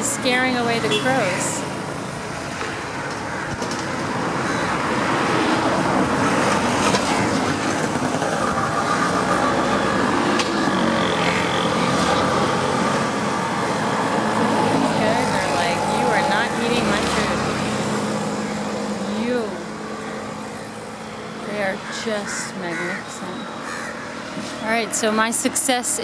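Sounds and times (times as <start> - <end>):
traffic rushing past: 0.0 - 26.0
vehicle engine: 0.0 - 26.0.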